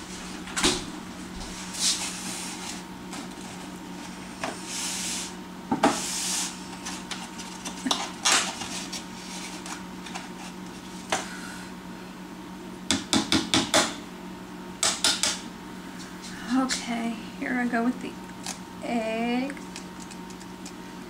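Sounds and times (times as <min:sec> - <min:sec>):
low steady hum: 0:00.0 - 0:12.9, 0:14.0 - 0:21.0.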